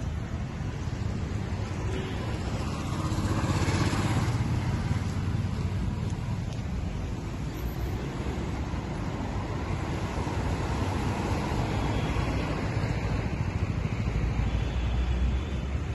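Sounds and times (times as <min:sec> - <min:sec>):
road traffic passing: 0:00.0 - 0:15.9.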